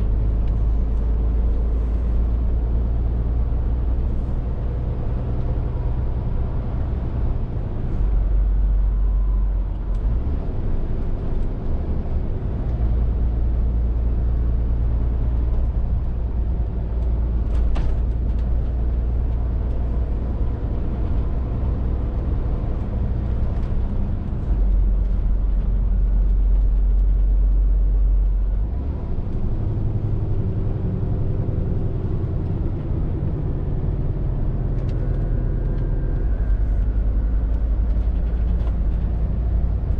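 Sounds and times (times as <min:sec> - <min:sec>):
lorry diesel engine drone: 0:00.0 - 0:39.9
road noise: 0:00.0 - 0:39.9.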